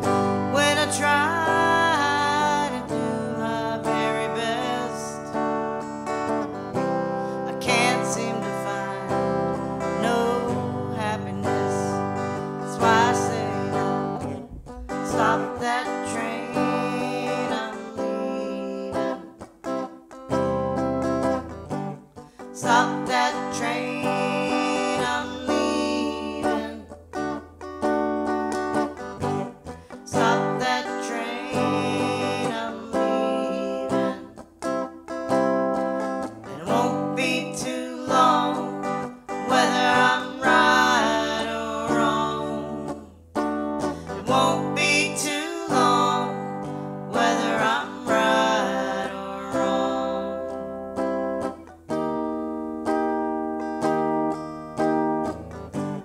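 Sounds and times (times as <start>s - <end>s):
acoustic guitar song: 0.0s - 56.0s.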